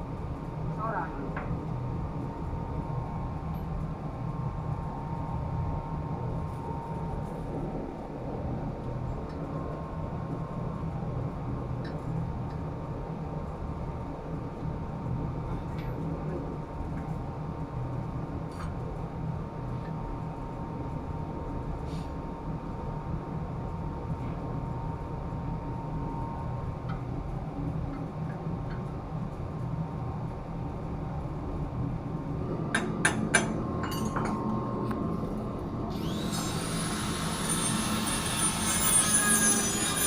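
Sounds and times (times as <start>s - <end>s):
low machinery drone: 0.0s - 40.0s
thin constant whine: 0.0s - 40.0s.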